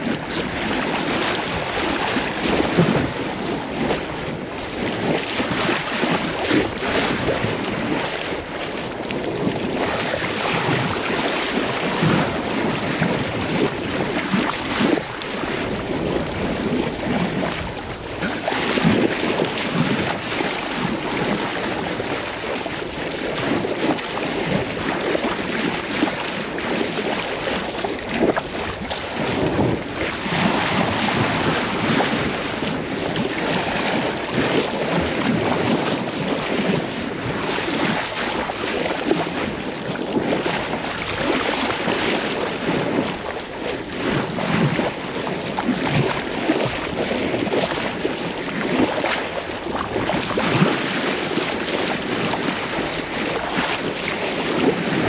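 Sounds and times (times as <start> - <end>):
sea water rushing along hull: 0.0 - 55.0
wind buffeting microphone: 0.0 - 55.0.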